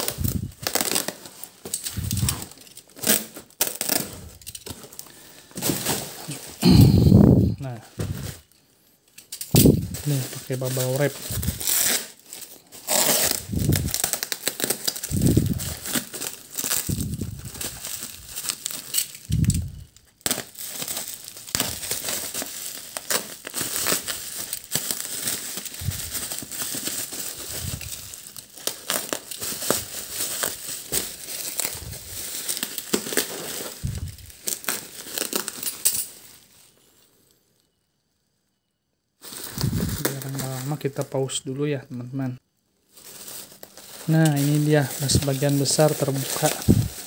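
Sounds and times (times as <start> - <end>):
bubble wrap crinkling: 0.0 - 8.6, 9.4 - 37.2, 39.2 - 41.4, 42.8 - 47.0.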